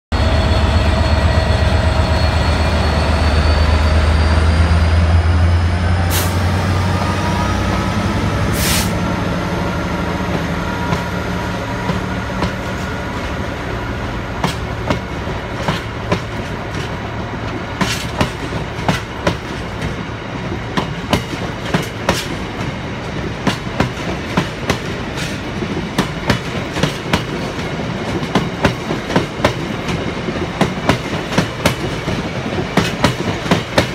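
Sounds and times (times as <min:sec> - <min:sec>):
diesel locomotive engine droning: 0:00.1 - 0:33.9.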